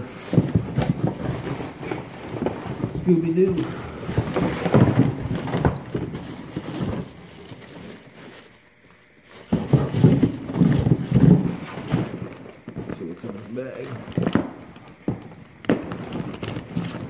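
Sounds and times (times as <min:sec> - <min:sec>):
items knocking in a box: 0:00.0 - 0:08.5, 0:09.3 - 0:17.0
rustling paper: 0:00.0 - 0:15.1, 0:15.7 - 0:17.0
crinkling plastic: 0:00.0 - 0:17.0.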